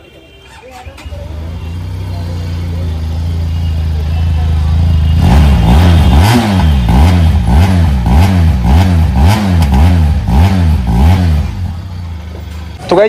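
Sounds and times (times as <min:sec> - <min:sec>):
motorcycle engine revving: 0:00.9 - 0:12.8.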